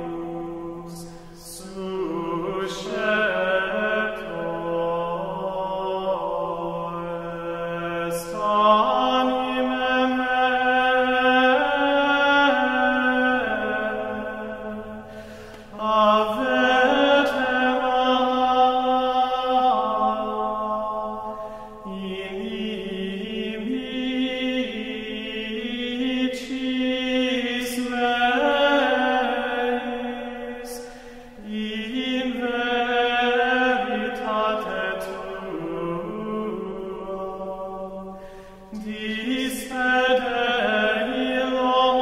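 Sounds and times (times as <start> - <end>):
slow meditative vocal chant: 0.0 - 42.0.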